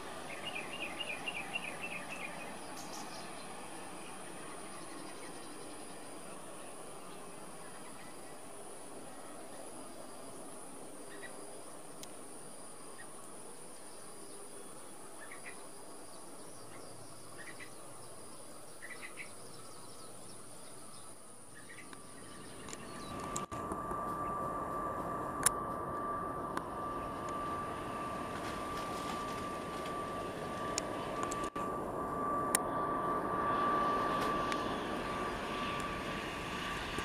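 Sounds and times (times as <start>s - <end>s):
airliner engine drone: 0.0s - 37.0s.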